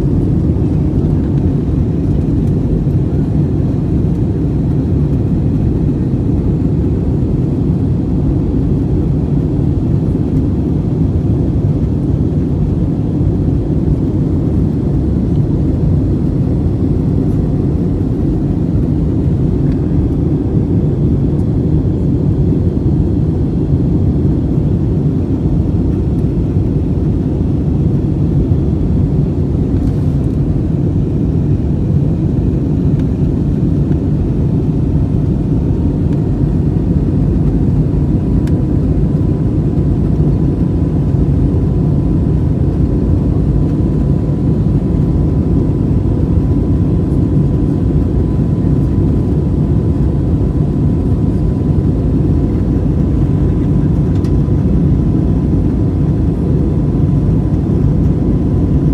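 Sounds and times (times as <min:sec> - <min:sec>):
airplane cabin engine rumble: 0:00.0 - 0:58.9
faint steady whine: 0:00.0 - 0:58.9.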